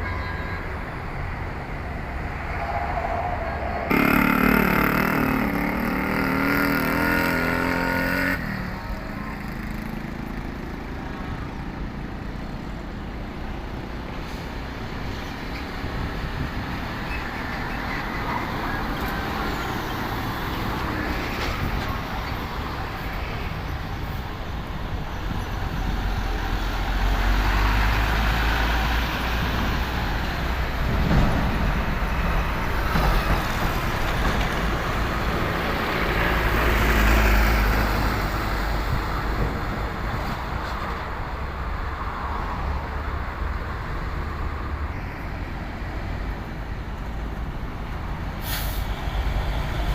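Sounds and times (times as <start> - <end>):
diesel trucks rumbling past: 0.6 - 49.9.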